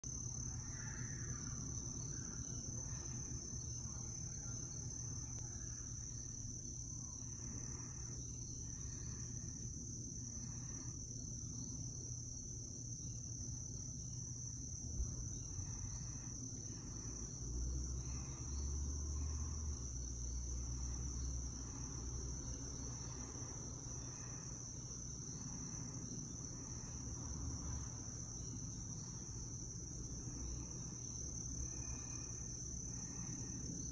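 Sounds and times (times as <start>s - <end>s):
insects trilling: 0.0s - 33.9s
low background rumble: 0.1s - 33.9s.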